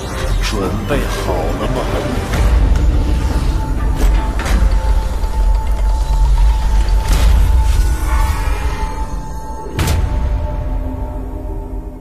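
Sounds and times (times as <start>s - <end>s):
dark ominous soundtrack music: 0.0s - 12.0s.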